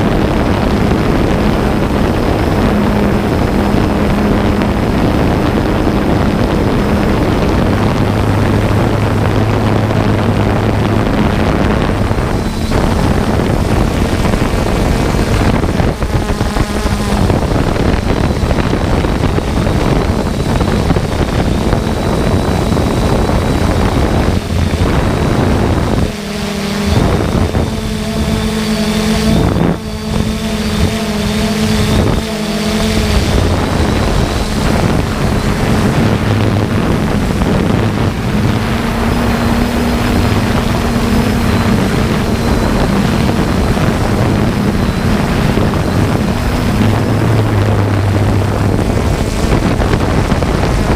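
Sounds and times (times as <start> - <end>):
mechanical hum: 0.0 - 50.9
steady pitched tones: 0.0 - 50.9
wind on microphone: 0.0 - 50.9.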